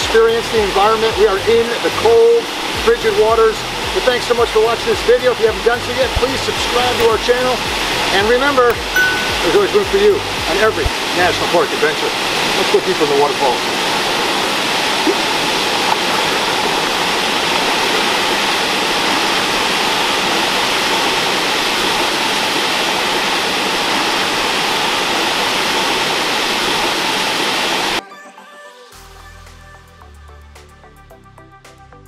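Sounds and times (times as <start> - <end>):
waterfall pouring into a pool: 0.0 - 28.0.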